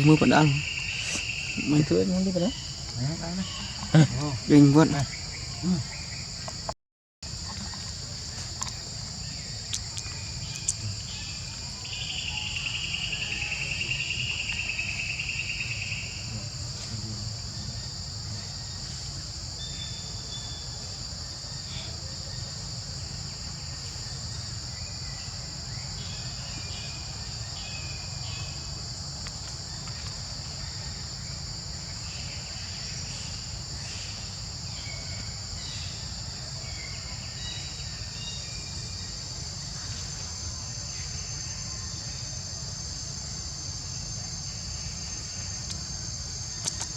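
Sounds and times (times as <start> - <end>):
insect chorus shrill drone: 0.0 - 46.9.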